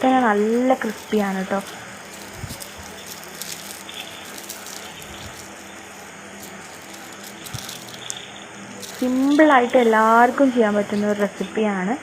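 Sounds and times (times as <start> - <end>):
hot oil sizzling with crackles: 0.0 - 11.6.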